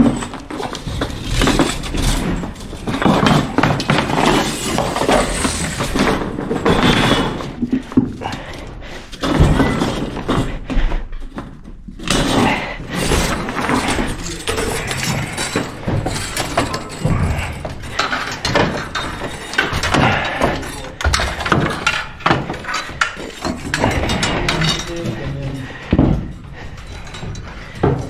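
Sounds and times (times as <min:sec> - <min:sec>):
parts clattering and clinking: 0:00.0 - 0:10.7, 0:11.4 - 0:28.0.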